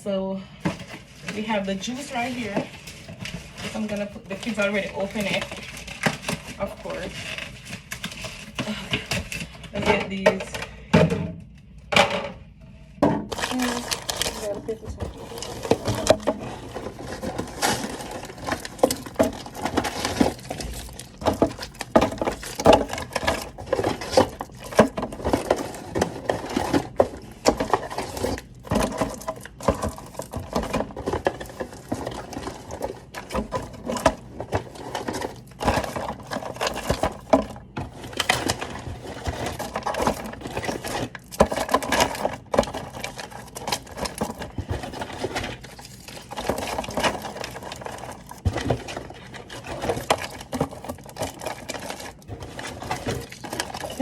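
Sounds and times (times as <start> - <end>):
plastic containers clattering: 0.1 - 54.0.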